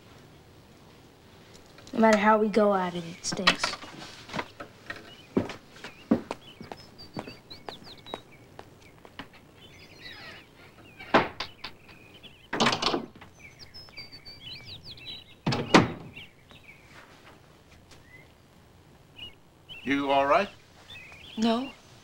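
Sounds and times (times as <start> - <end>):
small birds chirping: 1.1 - 22.0.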